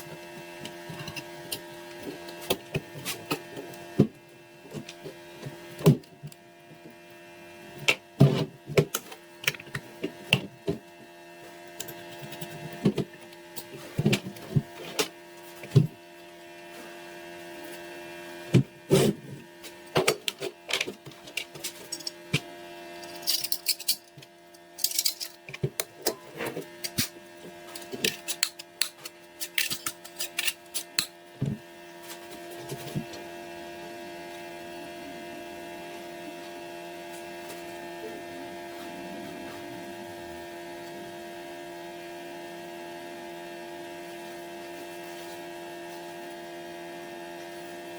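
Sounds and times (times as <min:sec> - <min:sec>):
electrical hum: 0:00.0 - 0:47.9.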